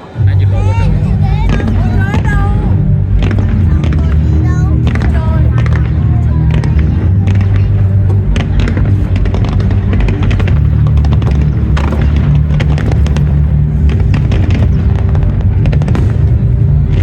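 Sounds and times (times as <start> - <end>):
fireworks bangs and crackling: 0.0 - 17.0
loud music with heavy bass: 0.0 - 17.0.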